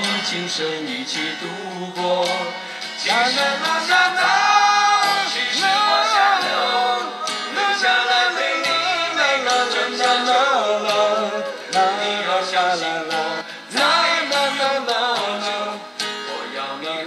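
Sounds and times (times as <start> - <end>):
instrumental pop ballad: 0.0 - 17.0.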